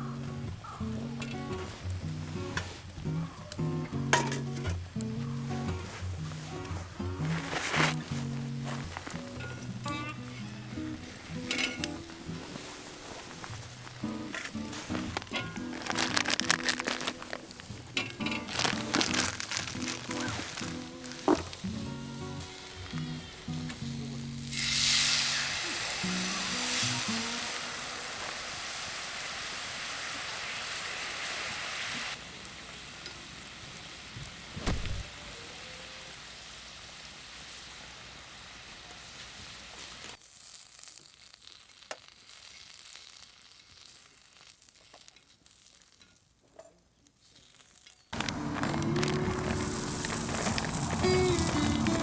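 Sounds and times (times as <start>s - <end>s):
oysters sizzling on a grill: 0.0s - 46.5s, 47.1s - 52.0s
fire crackling: 0.3s - 45.9s, 48.1s - 52.0s.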